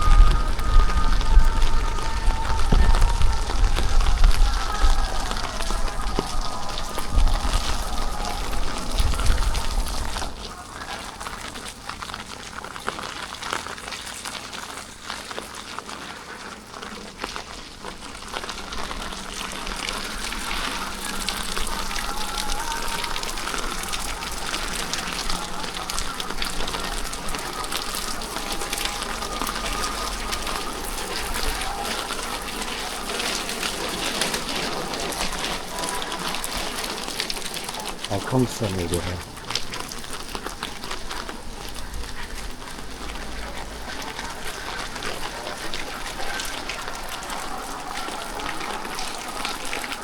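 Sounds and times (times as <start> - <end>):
rain with crackling patter: 0.0 - 50.0.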